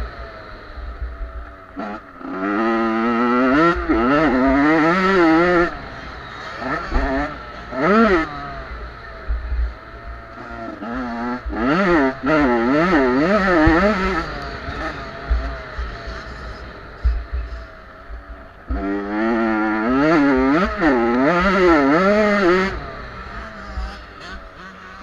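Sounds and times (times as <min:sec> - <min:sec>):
motocross bike engines revving: 0:00.0 - 0:25.0.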